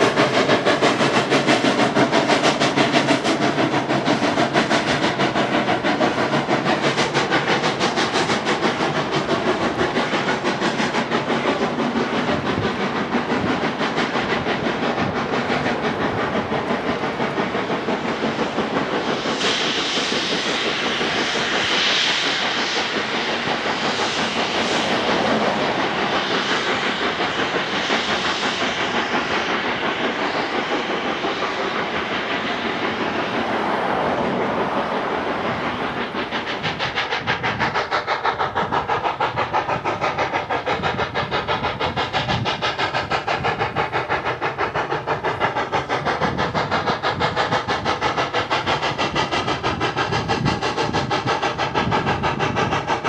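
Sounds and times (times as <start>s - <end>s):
steam hiss: 0.0s - 53.0s
steam locomotive rhythmic beat: 0.0s - 53.0s.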